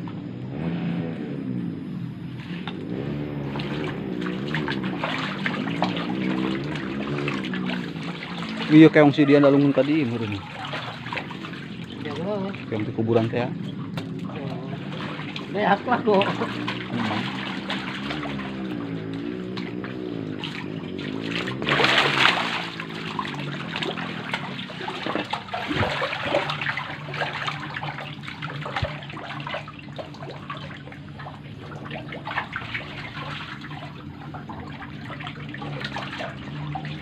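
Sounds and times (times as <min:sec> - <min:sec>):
water trickling: 0:02.6 - 0:37.0
catfish splashing in water: 0:02.7 - 0:37.0.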